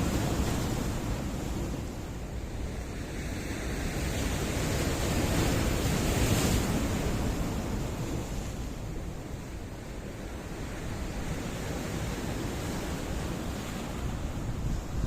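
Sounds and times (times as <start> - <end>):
surf washing against rocks: 0.0 - 2.4, 3.0 - 15.0.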